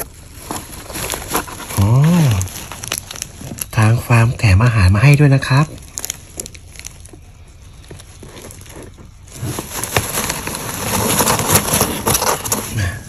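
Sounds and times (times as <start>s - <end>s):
wood shavings rustling: 0.0s - 13.0s.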